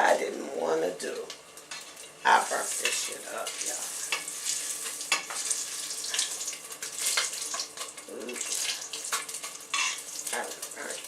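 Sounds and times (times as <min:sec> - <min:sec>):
fish frying in hot oil: 0:01.4 - 0:11.0.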